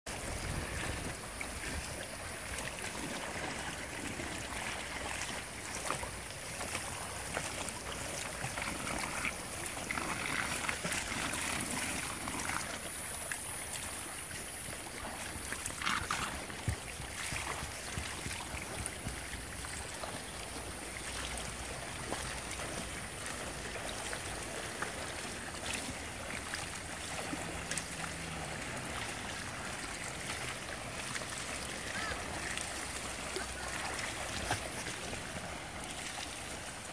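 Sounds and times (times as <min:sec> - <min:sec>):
pool water splashing from strokes: 0:00.1 - 0:36.9.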